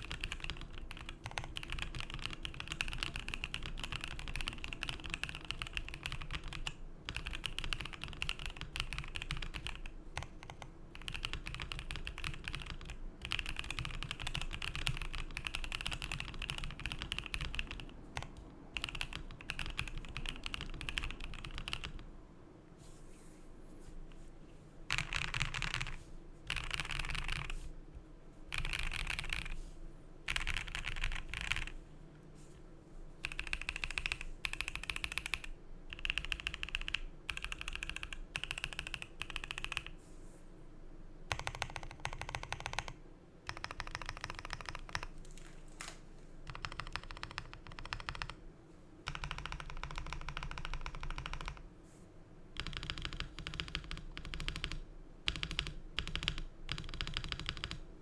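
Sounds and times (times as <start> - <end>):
mechanical keyboard typing: 0.0 - 22.0, 24.9 - 27.6, 28.5 - 29.6, 30.3 - 31.8, 33.2 - 40.0, 41.3 - 48.4, 49.1 - 51.6, 52.6 - 57.8.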